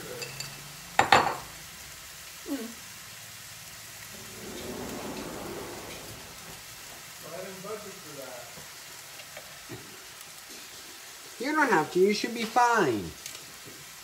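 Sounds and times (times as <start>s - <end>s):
chicken sizzling in skillet: 0.0s - 14.0s.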